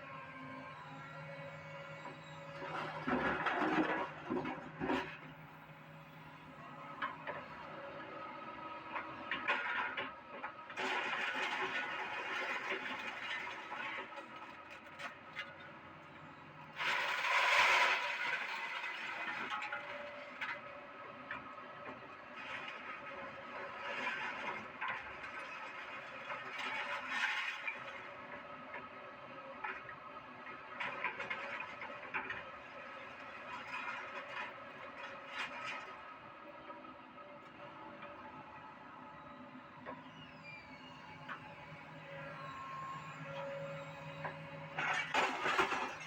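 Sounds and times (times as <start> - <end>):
excavator running: 0.0 - 46.0.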